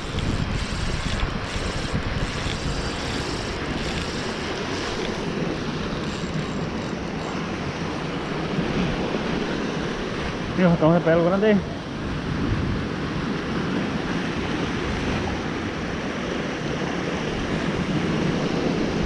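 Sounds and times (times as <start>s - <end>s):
wind rumbling on microphone: 0.0s - 10.6s, 11.6s - 19.0s
sea waves washing: 0.0s - 19.0s.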